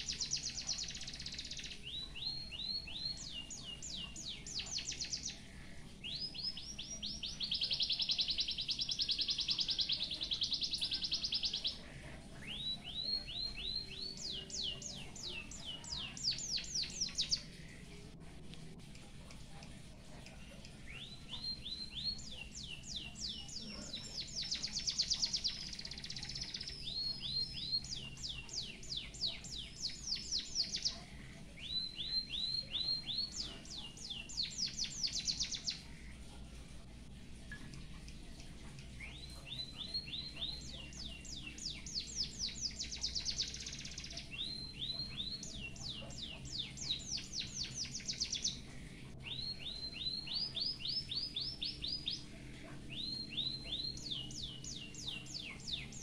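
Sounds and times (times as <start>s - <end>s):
munia singing buzzy trill: 0.0s - 36.6s, 37.2s - 56.0s.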